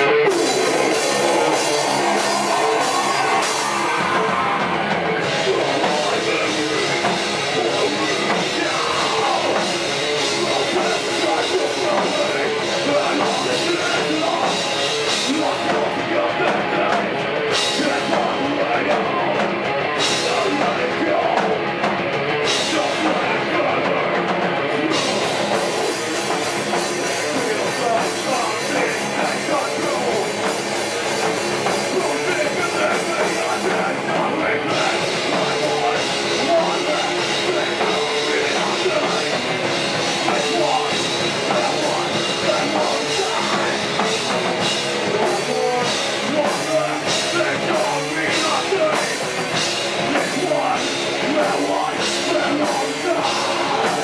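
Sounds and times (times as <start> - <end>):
bass guitar: 0.0 - 54.0
distorted electric guitars: 0.0 - 54.0
drum kit: 0.0 - 54.0.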